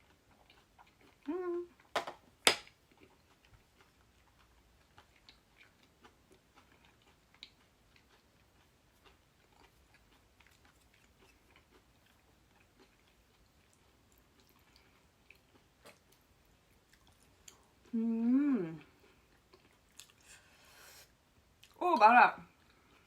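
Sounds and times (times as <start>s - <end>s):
faint chewing: 0.0s - 1.9s, 2.7s - 21.8s, 22.5s - 23.0s.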